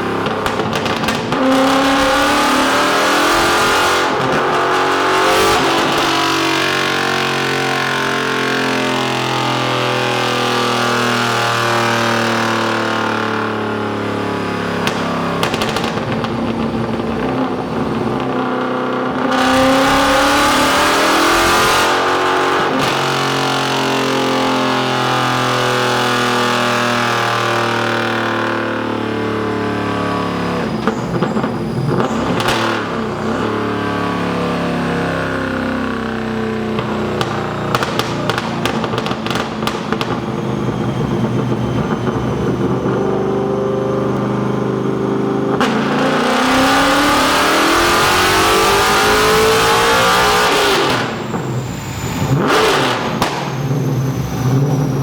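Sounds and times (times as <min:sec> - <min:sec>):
car engine revving: 0:00.0 - 0:55.0
exhaust crackles and pops: 0:00.0 - 0:55.0.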